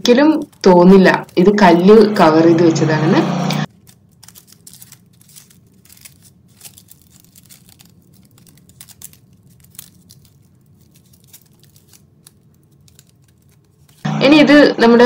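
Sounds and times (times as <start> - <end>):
foil wrapper crinkling: 0.0 - 2.0, 3.7 - 14.1.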